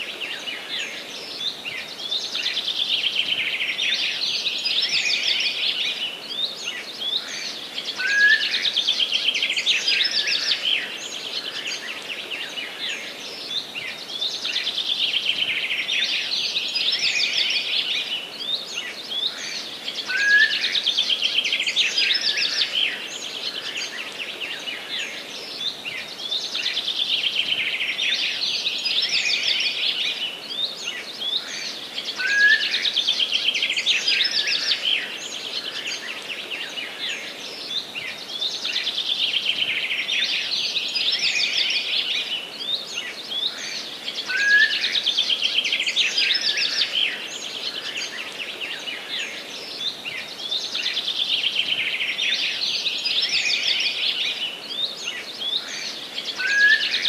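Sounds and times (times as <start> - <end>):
steady background hiss: 0.0 - 57.0
birds twittering: 6.7 - 57.0.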